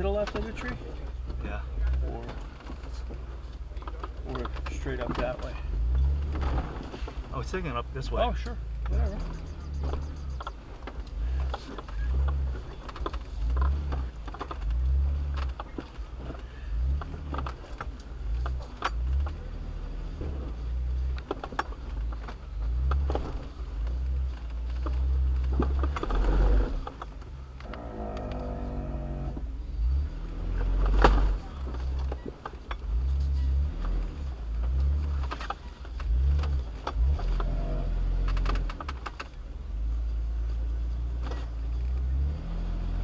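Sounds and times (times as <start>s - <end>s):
knocks and clicks from vehicle: 0.0s - 28.6s, 30.5s - 39.7s, 40.5s - 42.1s
off-road vehicle engine surging: 0.0s - 43.0s.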